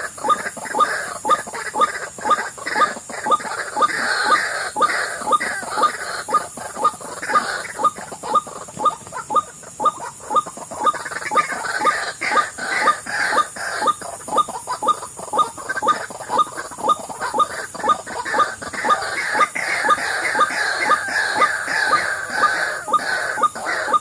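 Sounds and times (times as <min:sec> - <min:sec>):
bird croaking calls: 0:00.0 - 0:24.0.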